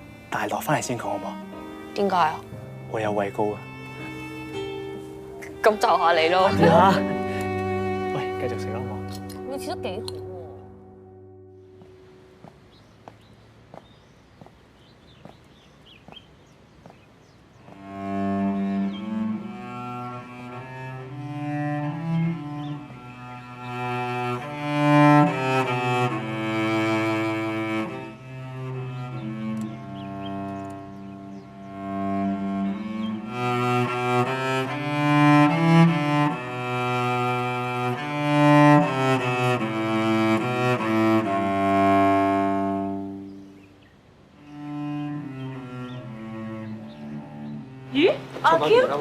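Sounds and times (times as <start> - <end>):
cello playing slow melody: 0.0 - 12.5, 17.6 - 49.0.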